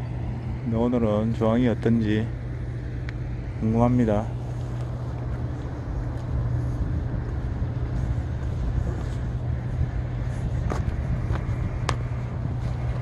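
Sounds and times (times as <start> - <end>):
low engine drone: 0.0 - 13.0
outdoor background noise: 0.0 - 13.0.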